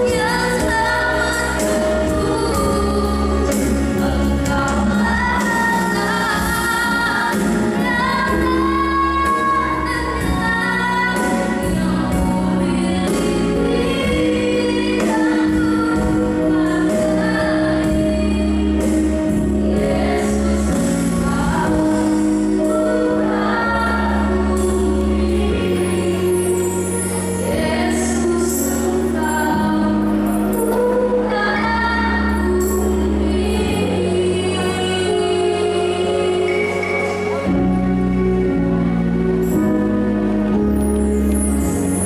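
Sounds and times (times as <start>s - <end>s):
woman singing: 0.0s - 37.5s
sustained bass: 0.0s - 42.0s.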